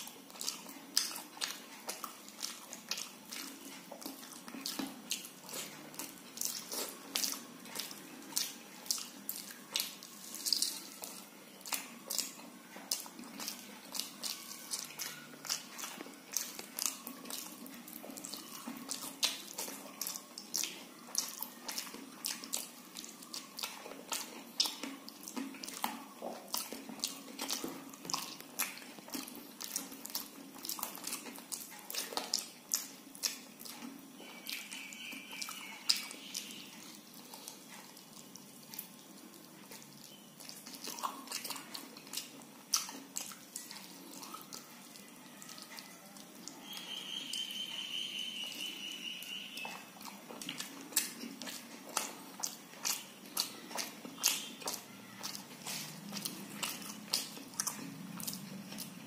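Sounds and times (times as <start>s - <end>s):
fingers squishing sticky rice: 0.0s - 59.0s
lips smacking while chewing: 0.0s - 59.0s.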